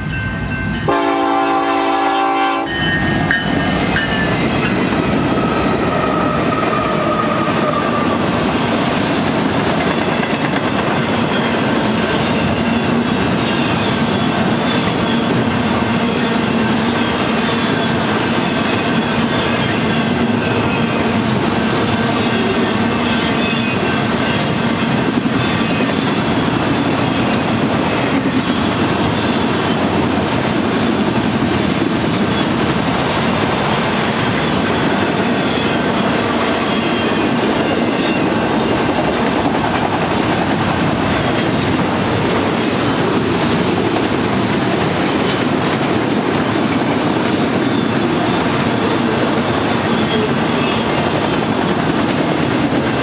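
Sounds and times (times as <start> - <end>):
freight train wheels clattering: 2.7 - 53.0.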